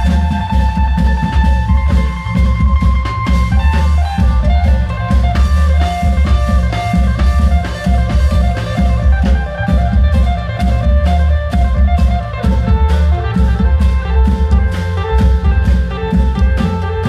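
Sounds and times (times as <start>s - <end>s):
heavy drum beat: 0.0s - 17.0s
melody of held notes: 0.0s - 17.0s.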